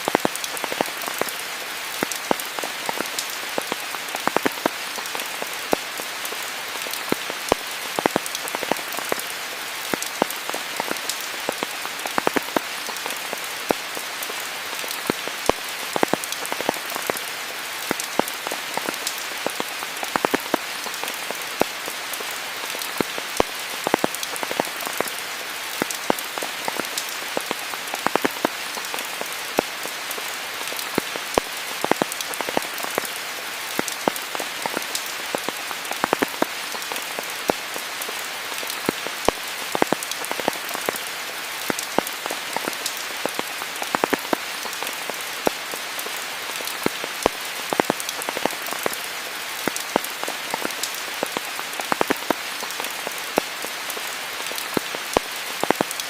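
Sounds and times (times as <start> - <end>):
raindrops ticking close by: 0.0 - 56.0
steady rain falling: 0.0 - 56.0.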